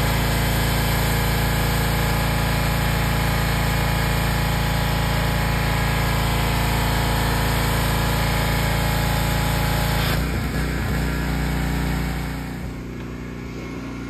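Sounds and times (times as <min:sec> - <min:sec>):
small gasoline engine running: 0:00.0 - 0:14.0.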